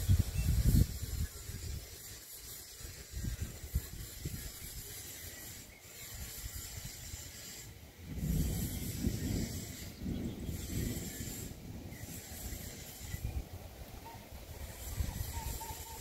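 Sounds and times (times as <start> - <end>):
wind gusts buffeting microphone: 0.0 - 16.0
wind hiss: 0.0 - 16.0.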